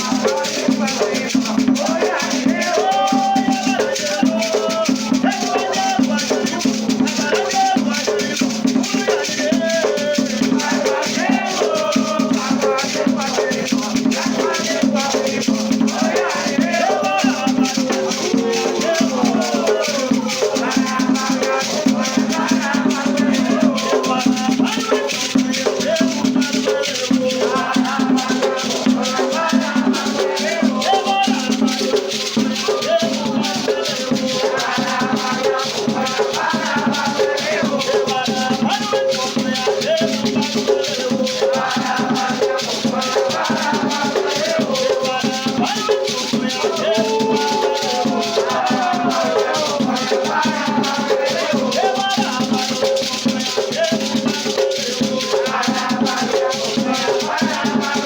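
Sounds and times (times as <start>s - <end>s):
drums: 0.0s - 58.0s
fast shaken rattle: 0.0s - 58.0s
voices singing a chant: 0.0s - 58.0s.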